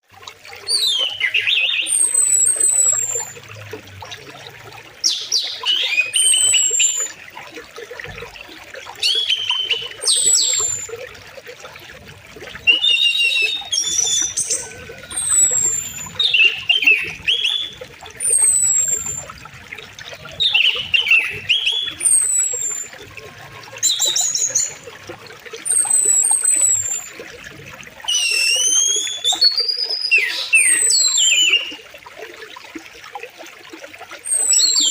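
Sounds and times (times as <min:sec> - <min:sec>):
flowing river water: 0:00.0 - 0:34.9
songbirds singing: 0:00.5 - 0:31.9, 0:34.2 - 0:34.9.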